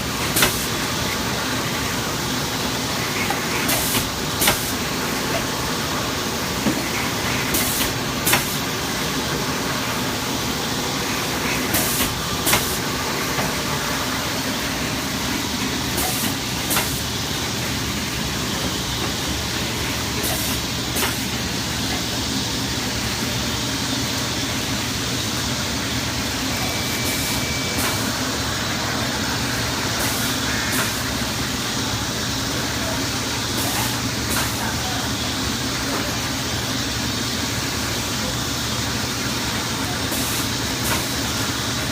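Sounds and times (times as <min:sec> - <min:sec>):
shrink-wrapping machine hiss and hum: 0:00.0 - 0:41.9.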